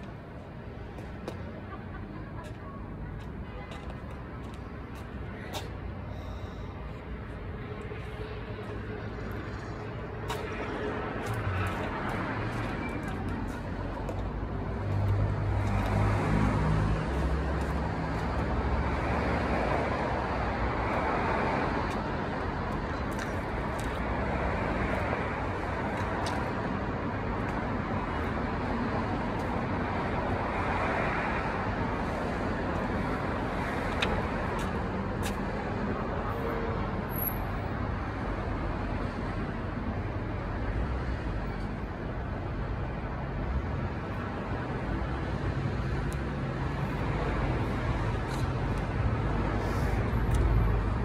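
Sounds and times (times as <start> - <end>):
road traffic hum: 0.0 - 51.0
vehicles passing: 0.0 - 51.0.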